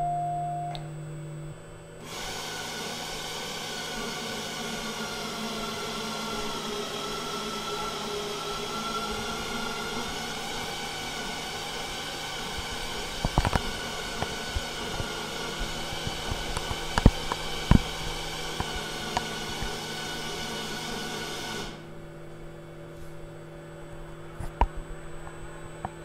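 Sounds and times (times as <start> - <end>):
machine hum with whining: 0.0 - 26.0.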